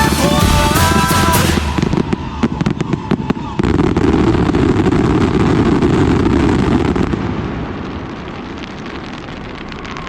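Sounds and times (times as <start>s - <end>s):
firecrackers crackling and popping: 0.0s - 10.0s.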